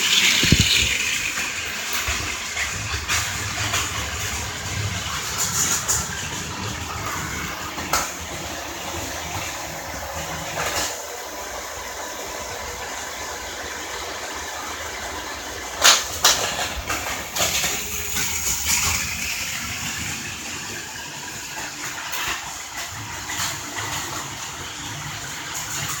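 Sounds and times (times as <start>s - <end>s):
toy train motor whir: 0.0s - 26.0s.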